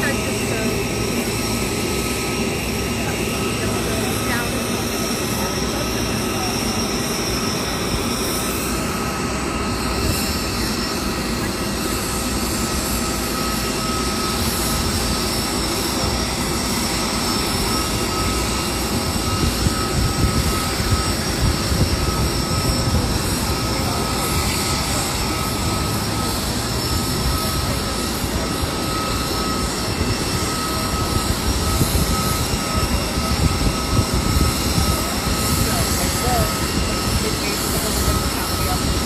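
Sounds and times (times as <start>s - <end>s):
jet engine rush with high whine: 0.0s - 39.0s.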